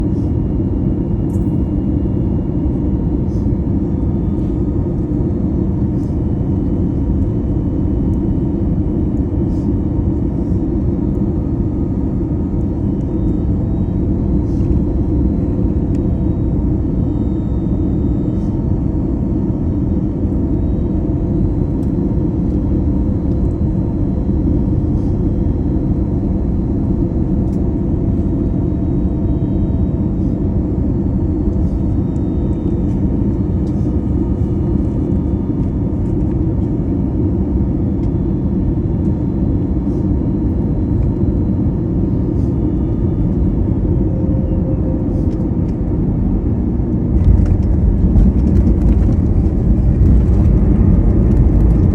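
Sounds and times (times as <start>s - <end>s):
airliner engines and airflow rumble: 0.0s - 51.9s.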